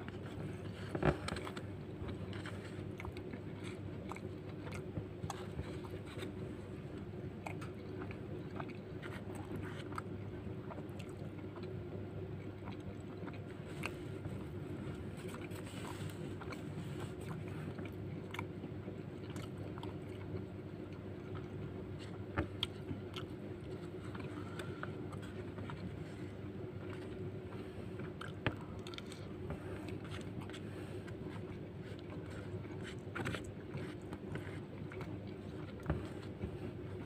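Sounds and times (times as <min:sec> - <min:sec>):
person chewing: 0:00.0 - 0:11.8, 0:12.4 - 0:37.0
steady low hum: 0:00.0 - 0:37.0.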